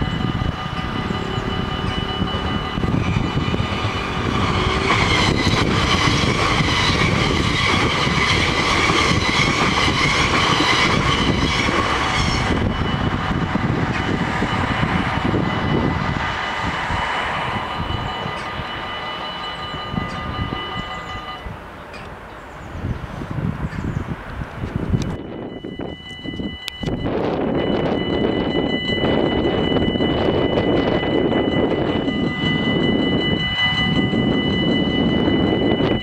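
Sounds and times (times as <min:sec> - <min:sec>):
level-crossing bells ringing: 0:00.0 - 0:21.6, 0:25.0 - 0:36.0
electric train passing: 0:00.0 - 0:36.0.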